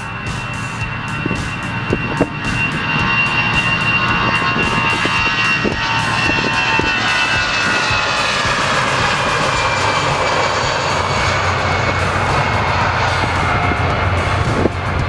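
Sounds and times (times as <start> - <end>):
jet engines roaring with whine: 0.0 - 15.0.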